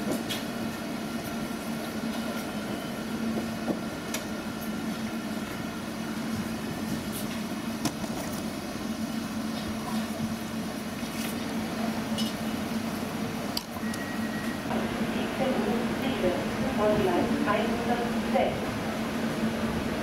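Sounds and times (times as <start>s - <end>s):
train blowers humming: 0.0s - 20.0s.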